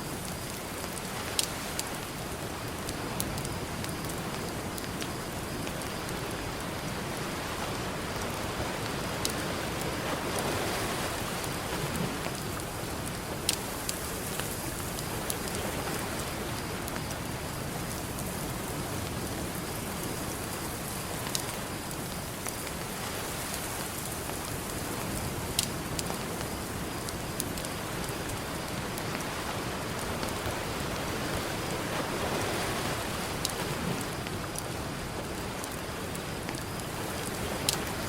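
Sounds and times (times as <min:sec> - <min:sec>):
ocean surf: 0:00.0 - 0:21.8, 0:22.6 - 0:38.0
campfire crackling and popping: 0:00.0 - 0:31.4, 0:32.8 - 0:38.0.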